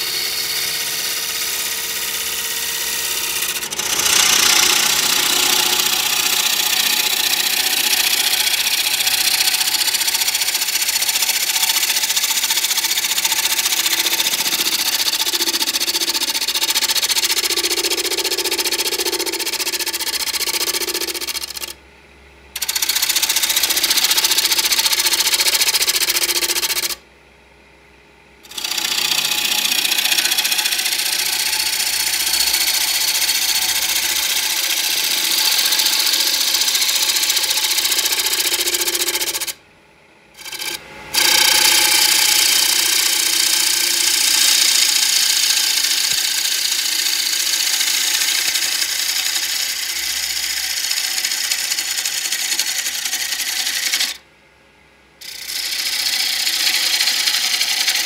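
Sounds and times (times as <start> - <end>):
wood lathe cutting hiss: 0.0 - 21.7, 22.6 - 27.0, 28.4 - 39.6, 40.4 - 54.2, 55.2 - 58.0.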